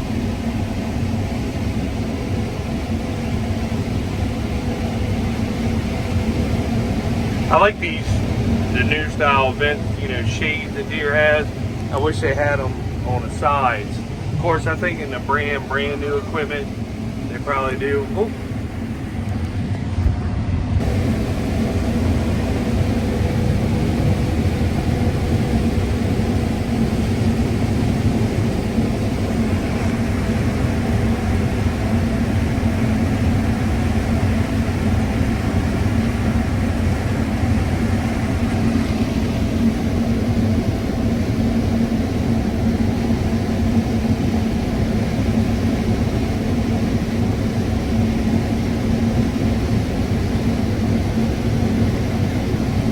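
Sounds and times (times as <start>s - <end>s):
combine engine and machinery drone: 0.0s - 52.9s.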